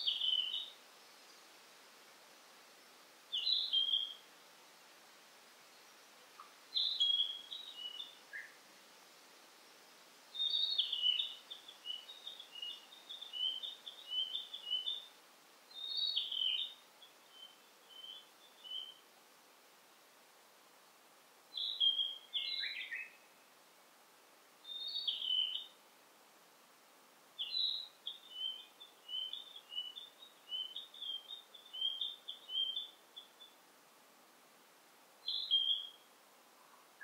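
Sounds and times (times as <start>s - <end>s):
songbird singing: 0.0s - 8.8s, 9.5s - 19.3s, 21.4s - 23.8s, 24.5s - 25.9s, 27.3s - 33.8s, 35.1s - 37.0s
faint forest hiss: 0.0s - 37.0s.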